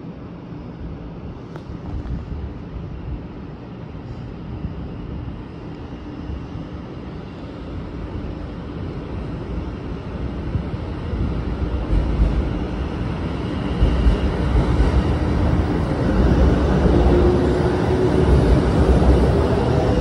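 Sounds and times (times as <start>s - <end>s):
train approaching rumble: 0.0s - 20.0s.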